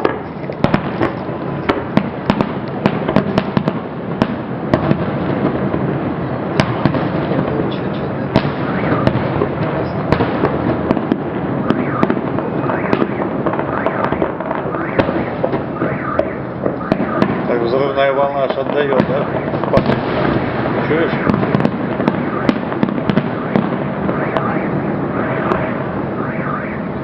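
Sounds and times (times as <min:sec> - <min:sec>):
rumble of fireworks bursts: 0:00.0 - 0:27.0.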